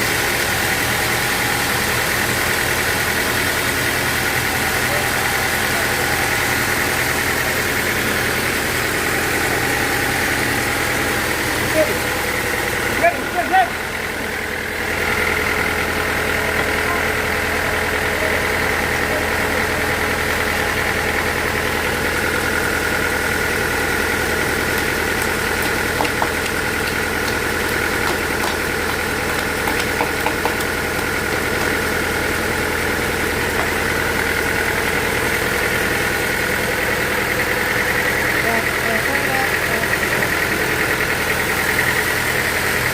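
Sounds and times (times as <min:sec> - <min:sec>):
high machine whine: 0:00.0 - 0:42.9
sawmill machinery drone: 0:00.0 - 0:42.9.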